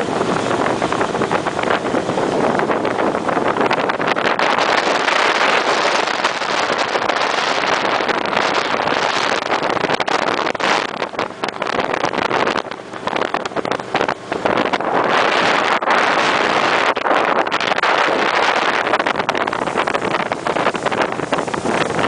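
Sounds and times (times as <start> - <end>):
boat engine: 0.0 - 22.0
wind rushing over microphone: 0.0 - 22.0.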